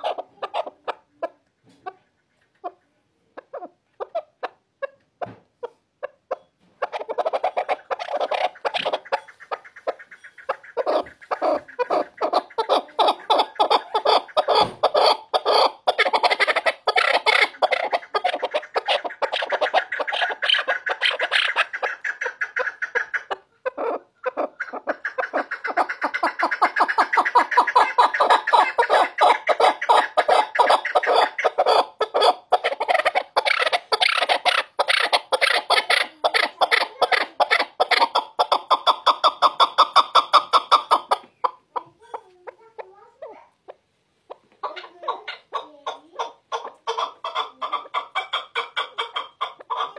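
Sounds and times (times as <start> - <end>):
partridge calling: 6.3 - 42.8, 44.3 - 49.9.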